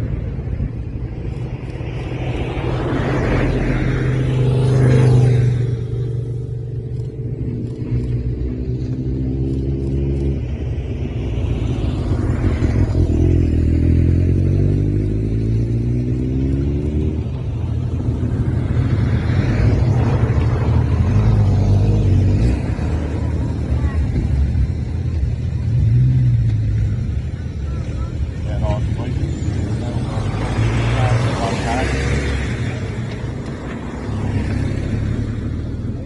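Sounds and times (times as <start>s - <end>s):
engines rumbling: 0.0s - 36.0s.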